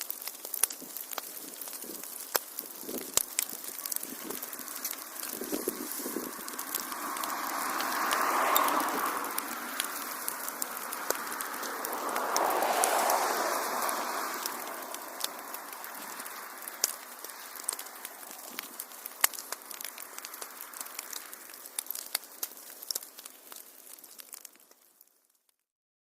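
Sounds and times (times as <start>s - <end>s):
wood fire crackling and popping: 0.0s - 25.6s.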